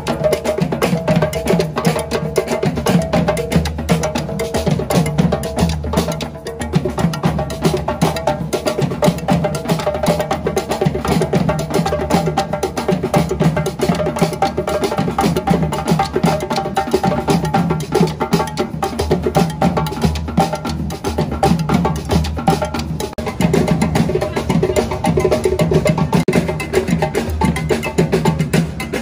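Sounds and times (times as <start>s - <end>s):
drum group playing: 0.0s - 29.0s.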